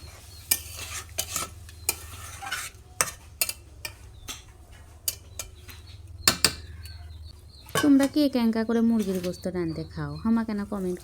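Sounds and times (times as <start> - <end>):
metal spatula scraping pot: 0.0 - 11.0.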